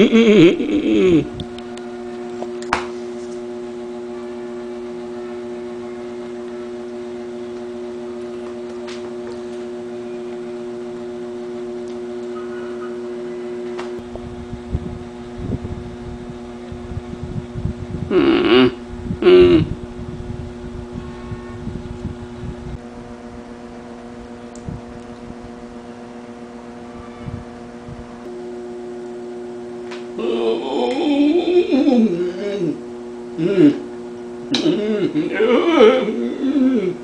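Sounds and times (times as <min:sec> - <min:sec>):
two-tone electrical hum: 0:00.0 - 0:37.0.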